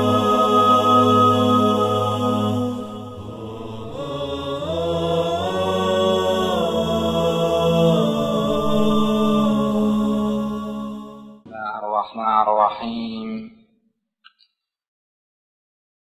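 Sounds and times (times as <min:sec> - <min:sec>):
layered voices chanting: 0:00.0 - 0:13.5.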